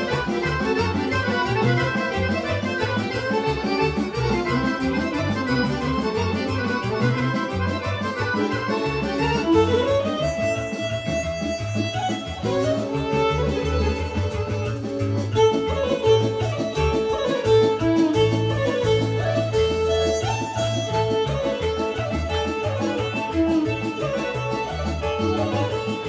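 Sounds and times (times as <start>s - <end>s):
fast violin lead: 0.0s - 26.0s
plucked strings: 0.0s - 26.0s
pulsing bass: 0.0s - 26.0s.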